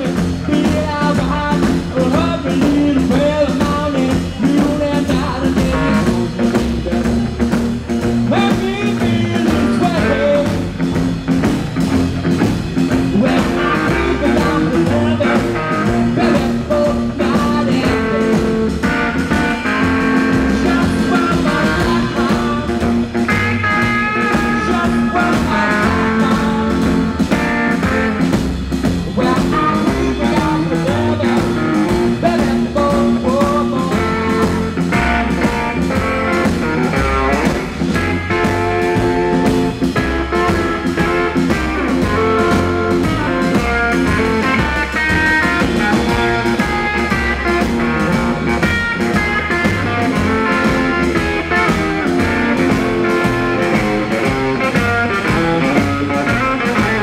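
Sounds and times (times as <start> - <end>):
man singing: 0.0 - 7.1, 8.2 - 10.9, 12.9 - 28.3, 29.0 - 57.0
rockabilly band playing live: 0.0 - 57.0.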